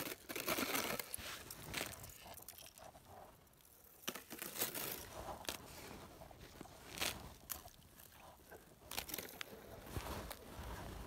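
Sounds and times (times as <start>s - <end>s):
snow and ice crunching: 0.0s - 11.0s.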